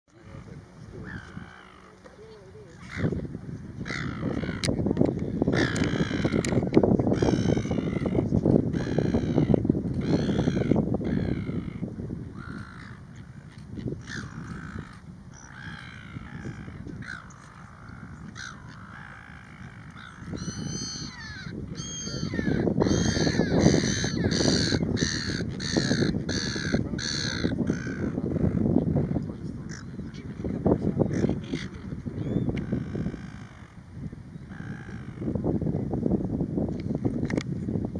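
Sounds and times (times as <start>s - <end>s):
gulls calling: 0.1s - 35.4s.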